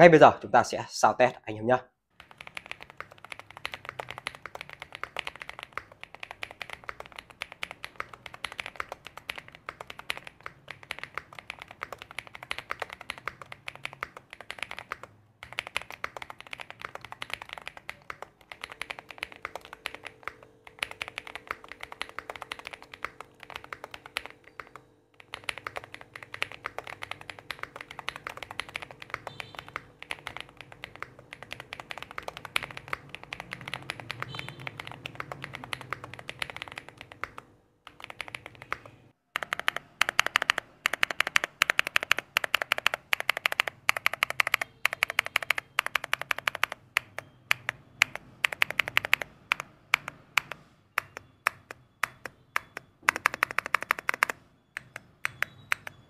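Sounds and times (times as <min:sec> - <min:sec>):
mechanical keyboard typing: 0:02.2 - 0:56.0.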